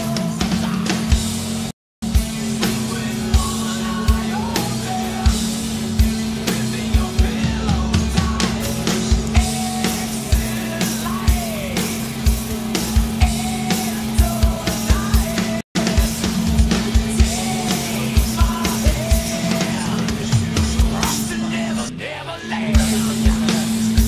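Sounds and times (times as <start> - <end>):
drum beat: 0.0 - 21.4, 22.8 - 24.0
rock music: 0.0 - 24.0
person singing: 2.3 - 24.0.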